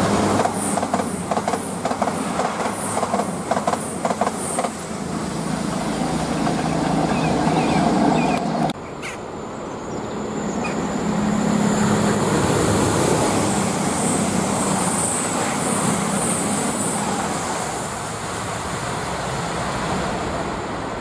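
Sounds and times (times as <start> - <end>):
diesel train passing close: 0.0 - 21.0
earlier train noise: 0.0 - 21.0.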